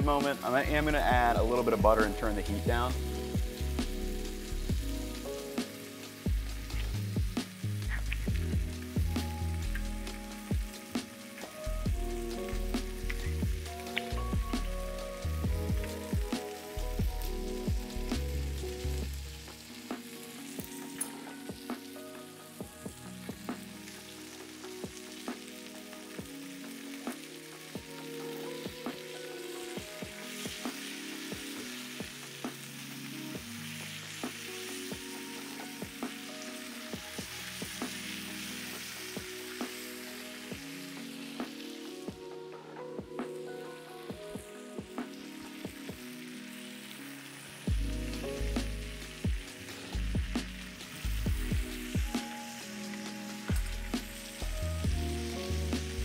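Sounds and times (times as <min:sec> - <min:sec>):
soft background music: 0:00.0 - 0:56.0
steaks sizzling in a pan: 0:00.0 - 0:56.0.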